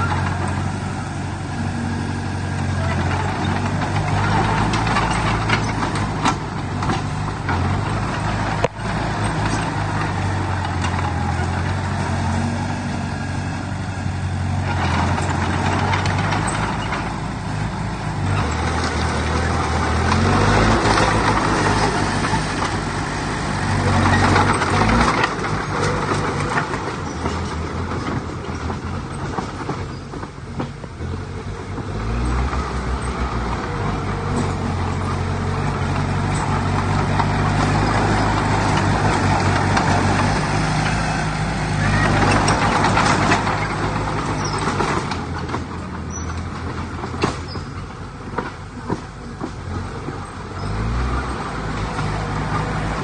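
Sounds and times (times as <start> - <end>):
heavy diesel engines revving: 0.0 - 53.0.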